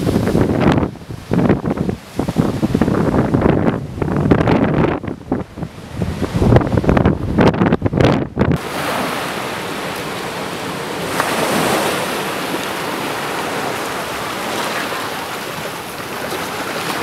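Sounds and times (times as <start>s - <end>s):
seawater rushing over road: 0.0s - 17.0s
wind buffeting the microphone: 0.0s - 17.0s.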